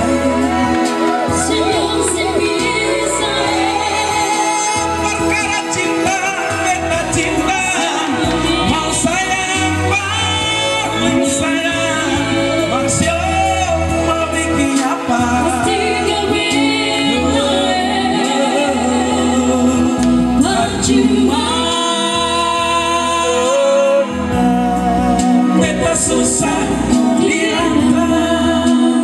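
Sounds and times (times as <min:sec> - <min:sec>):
bass line: 0:00.0 - 0:29.0
live band accompaniment: 0:00.0 - 0:29.0
man and woman singing duet: 0:00.0 - 0:29.0.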